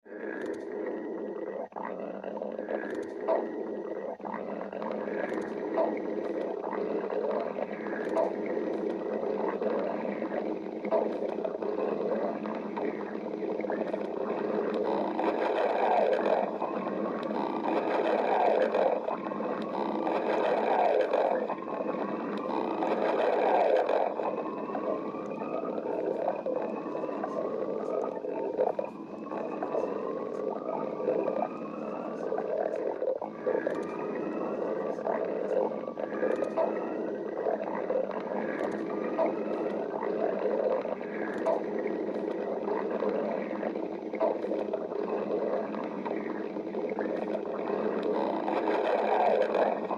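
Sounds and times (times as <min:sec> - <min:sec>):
stomach growling: 0:00.0 - 0:49.9.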